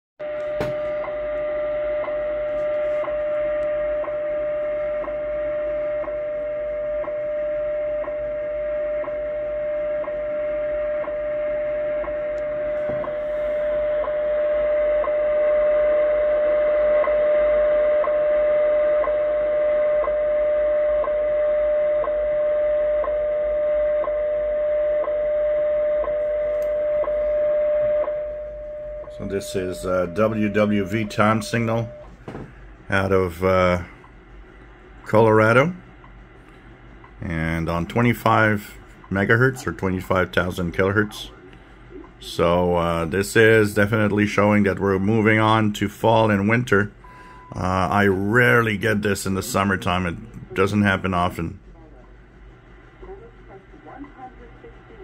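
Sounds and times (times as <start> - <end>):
steady radio tone: 0.2 - 36.3, 37.0 - 55.0
shortwave static: 0.2 - 47.0.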